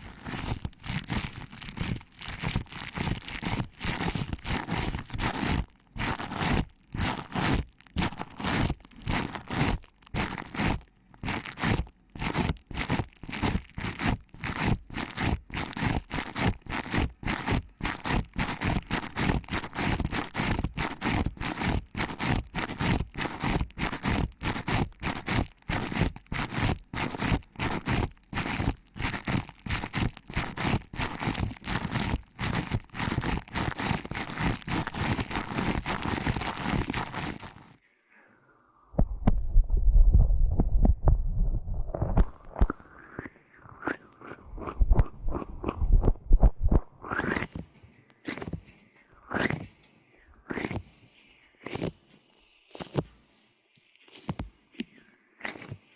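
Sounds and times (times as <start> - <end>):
fingers rubbing microphone: 0.0 - 37.8, 39.0 - 48.7, 49.3 - 49.7.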